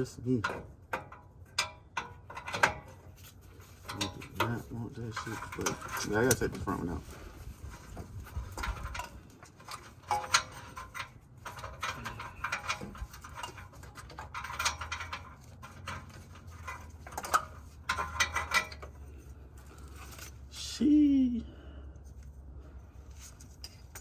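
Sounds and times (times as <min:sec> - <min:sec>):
metal tool clatter: 0:00.0 - 0:20.4.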